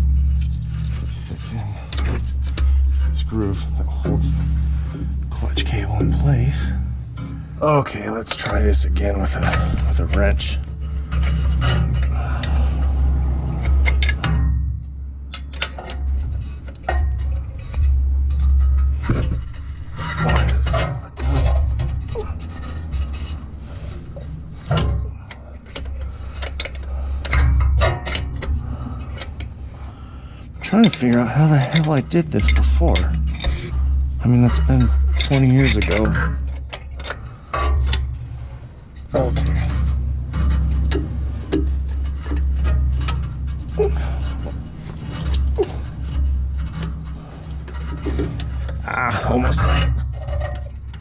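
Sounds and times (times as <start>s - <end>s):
metallic clicks and knocks: 0.0s - 51.0s
rubbing and scraping: 0.0s - 51.0s
steady low hum: 0.0s - 51.0s.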